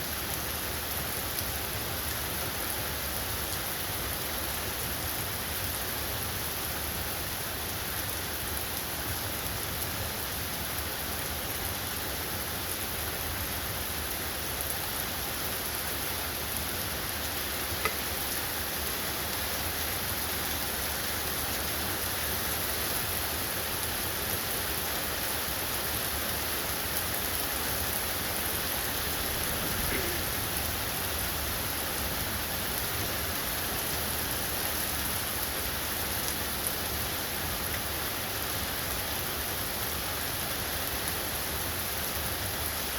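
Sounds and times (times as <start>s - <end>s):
steady rain hiss: 0.0s - 42.9s.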